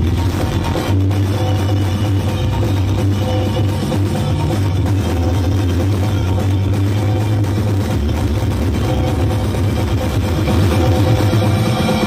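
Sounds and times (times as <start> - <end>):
loud music with deep bass: 0.0 - 12.0.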